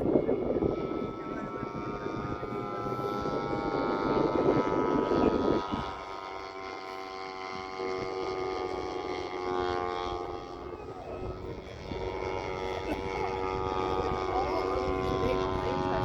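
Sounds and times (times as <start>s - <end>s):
model airplane engine drone: 0.0s - 16.0s.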